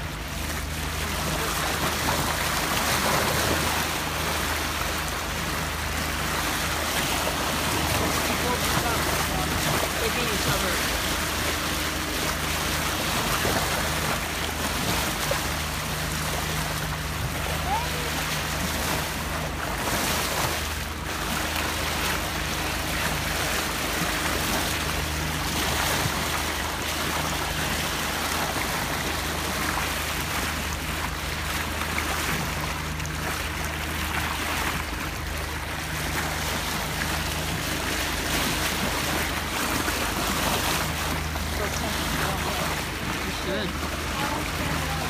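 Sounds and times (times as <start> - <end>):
boat engine humming: 0.0 - 45.0
water splashing along hull: 0.0 - 45.0.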